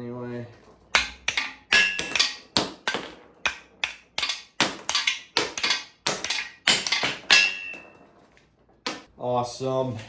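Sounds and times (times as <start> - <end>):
sharp metallic impacts: 0.6 - 9.1.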